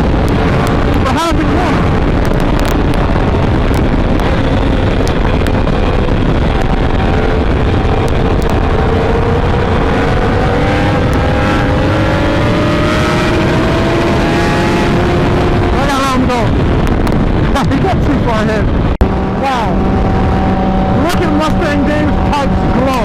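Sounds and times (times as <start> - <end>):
heavy wind rush: 0.0 - 23.0
motorcycle engine revving: 0.0 - 23.0.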